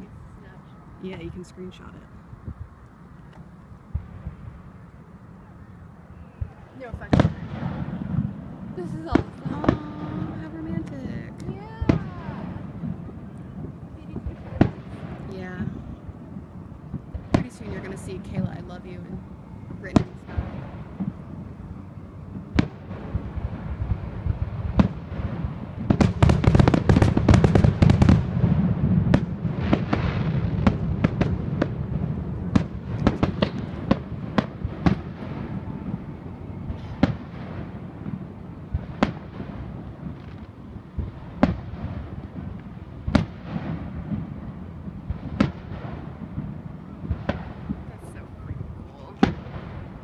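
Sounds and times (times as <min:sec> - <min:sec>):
fireworks bursting: 0:06.1 - 0:50.0.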